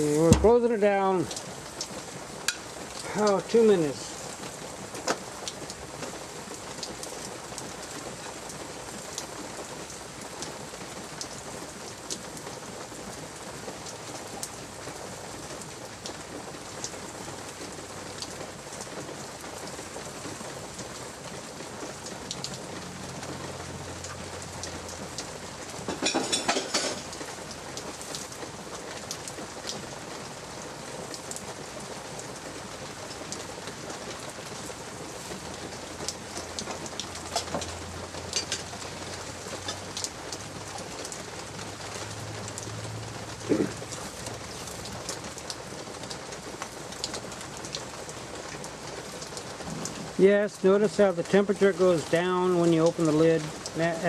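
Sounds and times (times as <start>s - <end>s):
light rain: 0.0s - 54.0s.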